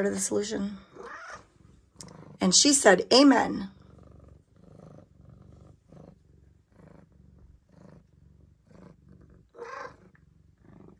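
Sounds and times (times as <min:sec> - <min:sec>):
cat purring: 0:00.0 - 0:10.9.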